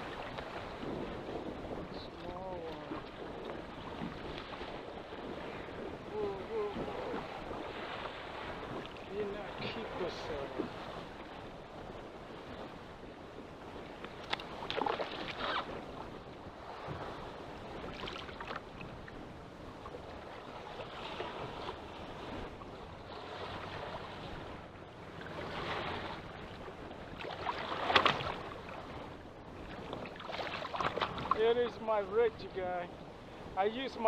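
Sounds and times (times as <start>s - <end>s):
waves surging and washing: 0.0s - 34.0s
wind noise on microphone: 0.0s - 34.0s.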